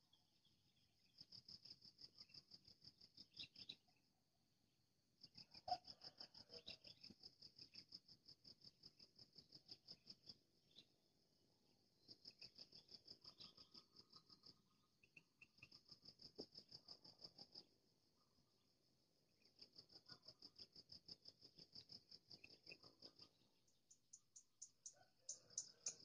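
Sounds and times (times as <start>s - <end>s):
faint insect trill: 0.1s - 26.0s.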